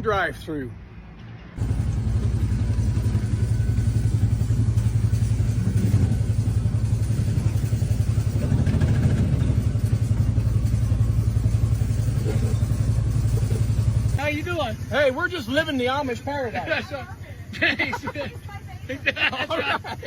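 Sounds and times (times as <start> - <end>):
small engine running steadily: 1.6 - 20.0.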